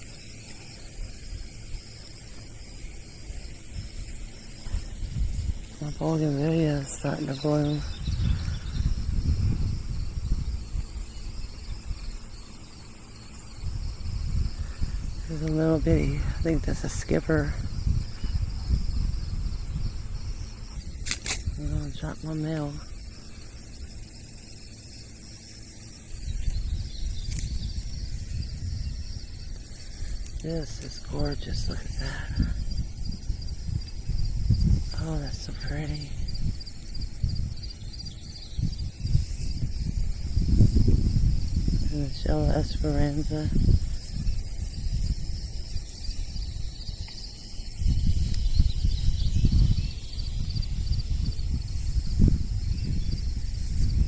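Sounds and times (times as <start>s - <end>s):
crickets chirping: 0.0s - 54.0s
low rumble on microphone: 0.0s - 54.0s.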